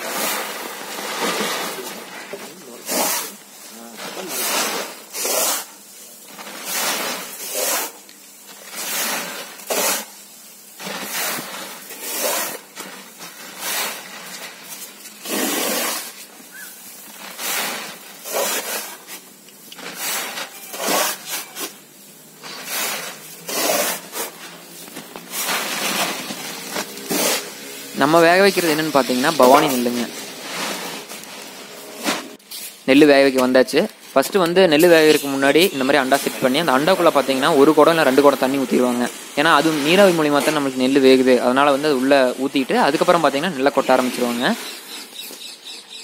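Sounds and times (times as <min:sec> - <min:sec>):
grain poured into a sack: 0:00.0 - 0:44.8.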